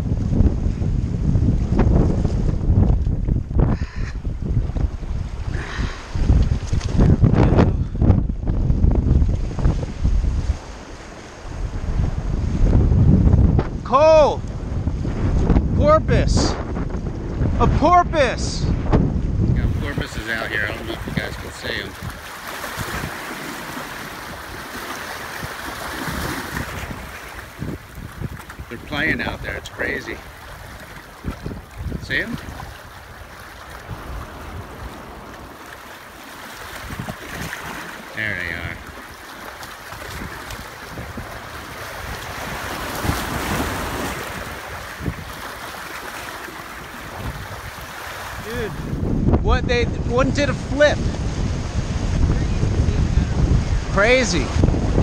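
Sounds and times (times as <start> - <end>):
surf washing on beach: 0.0 - 55.0
wind buffeting microphone: 0.0 - 55.0.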